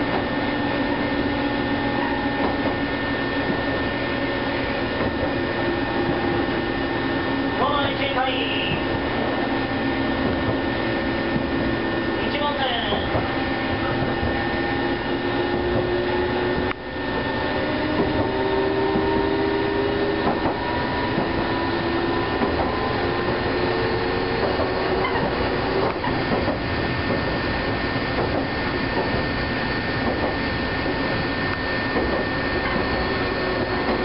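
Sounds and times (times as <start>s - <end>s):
running gear tones: 0.0s - 34.0s
train wheels on rail: 0.0s - 34.0s.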